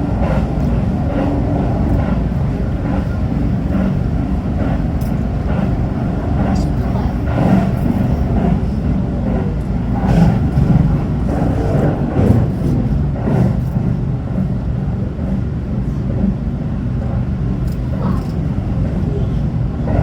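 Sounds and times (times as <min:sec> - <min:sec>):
wheel and rail noise: 0:00.0 - 0:16.3
train cabin rumble: 0:00.0 - 0:20.0.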